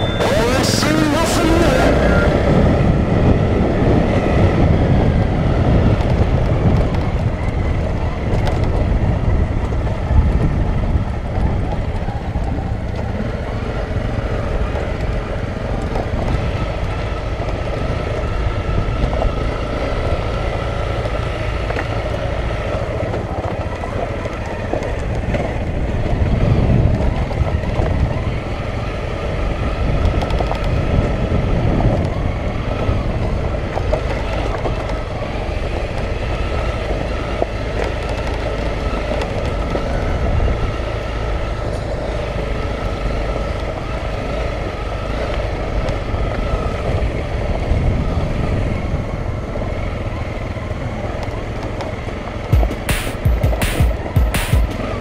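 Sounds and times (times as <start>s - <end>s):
motorcycle engine rumbling: 0.0s - 44.1s.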